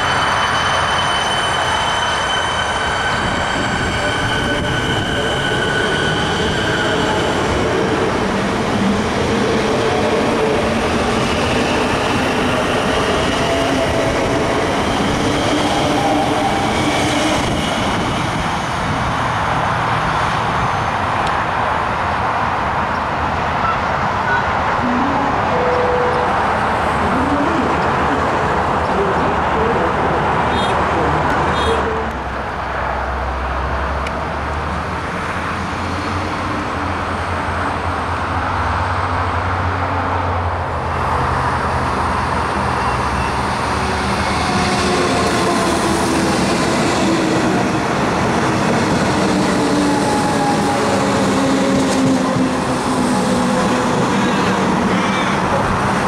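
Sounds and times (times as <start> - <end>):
gliding train tones: 0.0 - 21.6, 23.3 - 32.9, 35.2 - 56.0.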